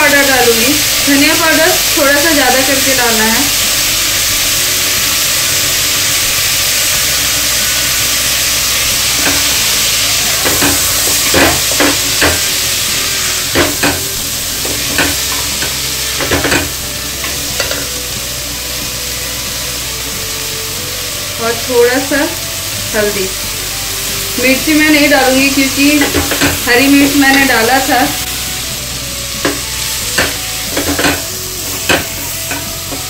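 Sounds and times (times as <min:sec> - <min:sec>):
onions and beans sizzling: 0:00.0 - 0:33.0.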